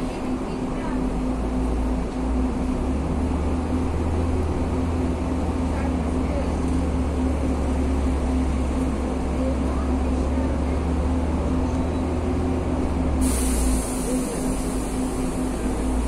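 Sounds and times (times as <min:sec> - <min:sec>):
bus diesel engine drone: 0:00.0 - 0:16.0.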